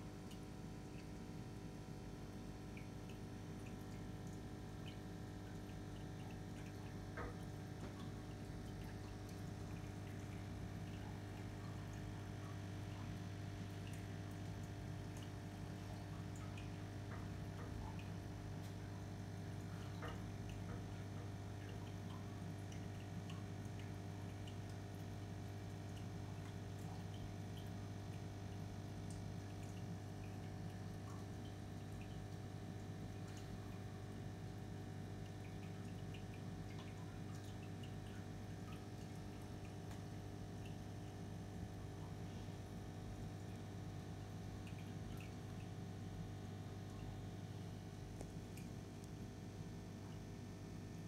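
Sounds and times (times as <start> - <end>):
aquarium filter pump humming: 0.0 - 51.0
water ticks and drips: 0.0 - 51.0.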